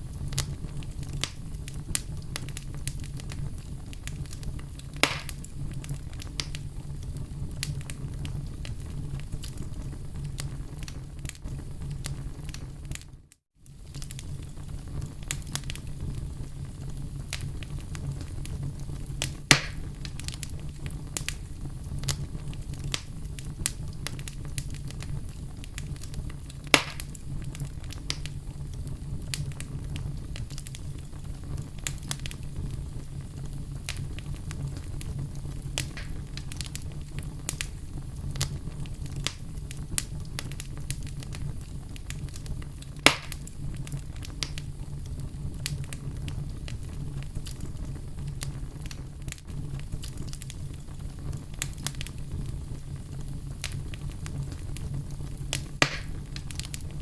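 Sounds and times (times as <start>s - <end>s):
burning wood popping: 0.0s - 57.0s
wood fire crackling: 0.0s - 57.0s.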